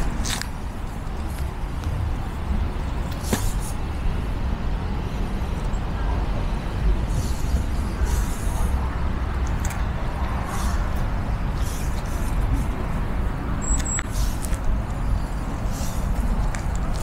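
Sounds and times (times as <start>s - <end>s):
road traffic rumbling: 0.0s - 17.0s.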